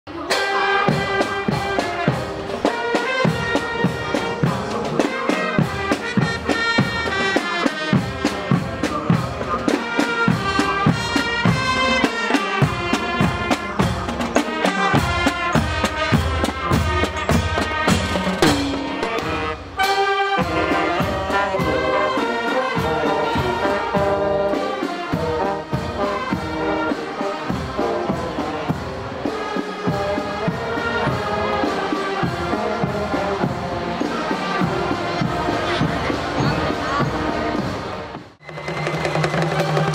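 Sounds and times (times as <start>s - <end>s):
brass instrumental music: 0.1s - 39.9s
percussion beat: 0.3s - 39.9s.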